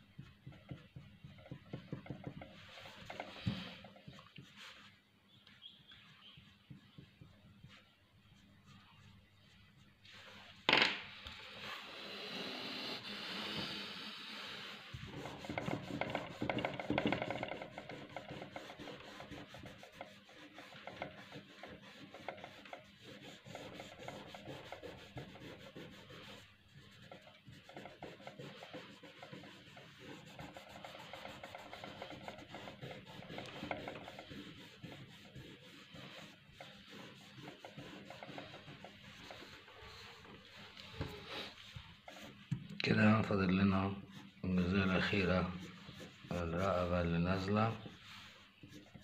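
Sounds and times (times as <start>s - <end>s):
cloth rubbing on paper: 0.0s - 5.1s, 5.7s - 10.6s, 11.4s - 49.0s.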